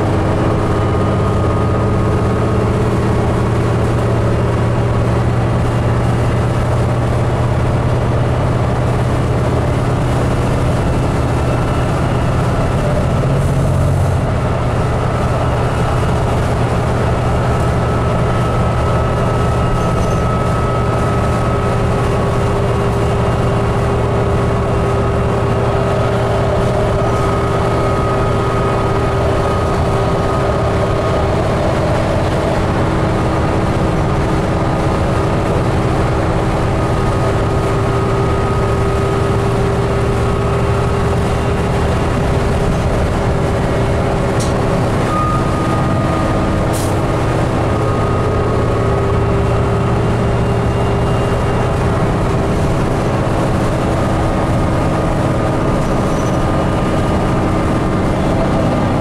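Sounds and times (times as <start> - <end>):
bus engine drone: 0.0 - 59.0
road noise: 0.0 - 59.0
faint whine: 10.1 - 59.0.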